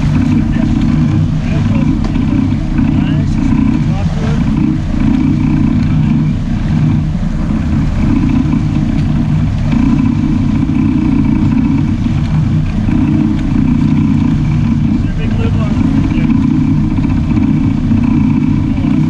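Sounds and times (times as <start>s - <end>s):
boat engines droning: 0.0s - 19.0s.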